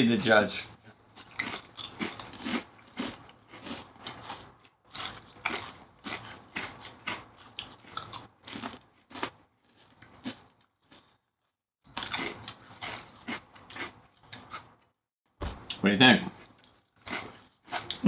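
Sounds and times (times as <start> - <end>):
person chewing food: 0.8 - 11.3, 11.9 - 14.8, 15.4 - 18.0.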